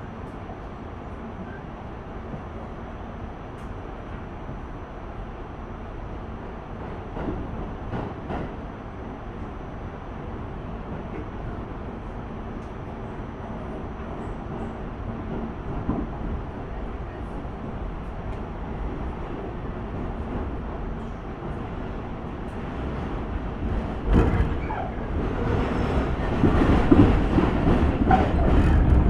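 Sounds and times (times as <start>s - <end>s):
subway wheels rumbling: 0.0s - 29.0s.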